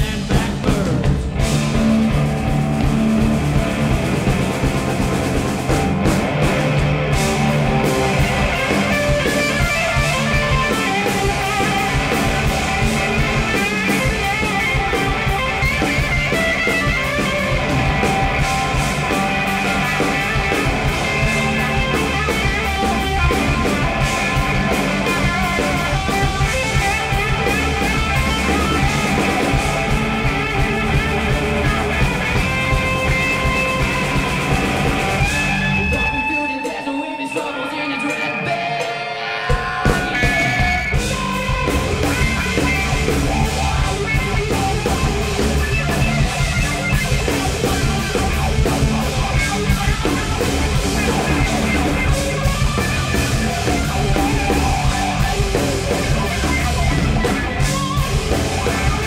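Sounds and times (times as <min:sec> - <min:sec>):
bass guitar: 0:00.0 - 0:37.3, 0:38.0 - 0:59.0
distorted electric guitars: 0:00.0 - 0:59.0
drum kit: 0:00.0 - 0:59.0.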